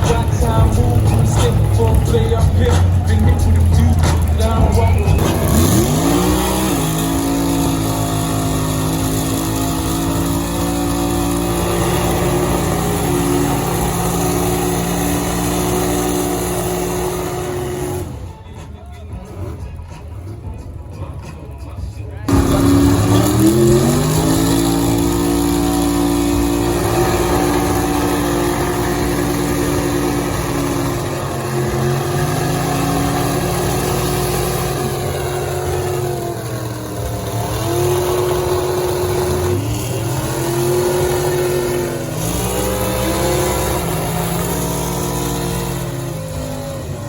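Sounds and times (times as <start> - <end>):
truck engine revving: 0.0 - 21.4, 22.1 - 47.0.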